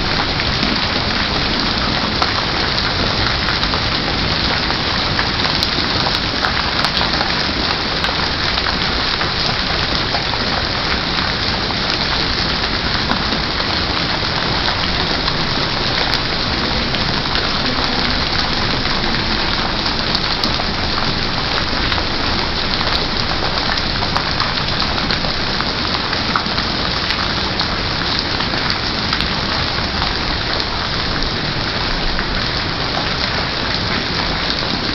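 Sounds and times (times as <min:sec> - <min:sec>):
heavy rain pattering: 0:00.0 - 0:34.9.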